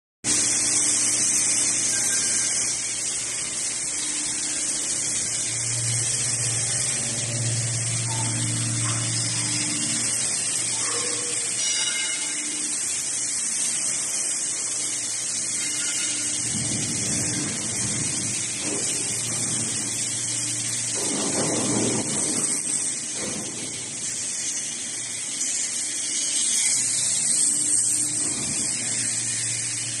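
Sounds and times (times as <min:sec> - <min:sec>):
workshop machinery running: 0:00.3 - 0:30.0.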